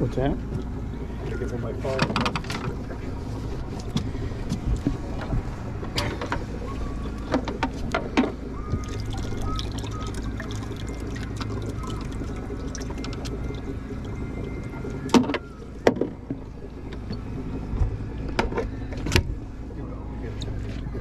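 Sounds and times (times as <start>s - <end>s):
boat engine rumble: 0.0s - 21.0s
water splashing: 0.2s - 18.2s.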